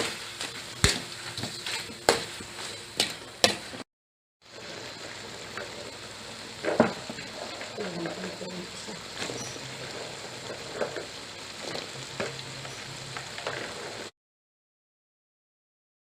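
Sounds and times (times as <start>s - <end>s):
food sizzling in a pan: 0.0s - 3.8s, 4.4s - 14.1s.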